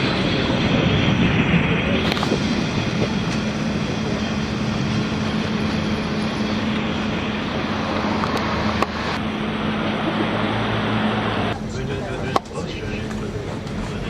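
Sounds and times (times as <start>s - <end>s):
constant low hum: 0.0s - 14.0s
train rumbling: 0.0s - 14.0s.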